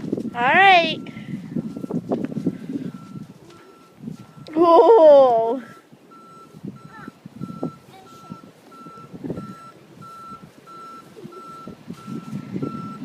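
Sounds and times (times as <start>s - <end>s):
backup alarm beeping: 0.2s - 4.9s, 5.6s - 13.0s.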